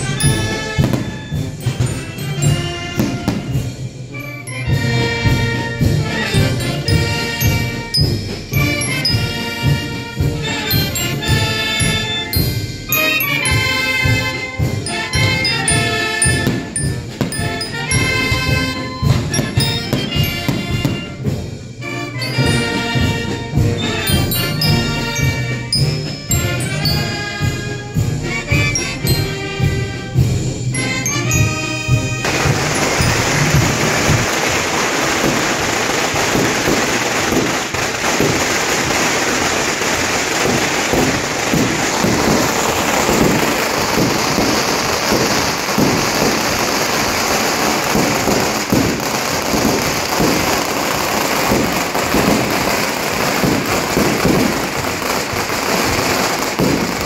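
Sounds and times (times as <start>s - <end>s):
firecrackers crackling rapidly: 0.0s - 57.0s
procession band music: 0.0s - 57.0s.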